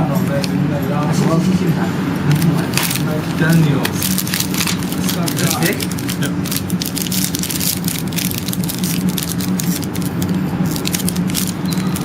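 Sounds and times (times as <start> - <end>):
steady low hum: 0.0 - 12.0
packaging crackling and tearing: 2.3 - 12.0.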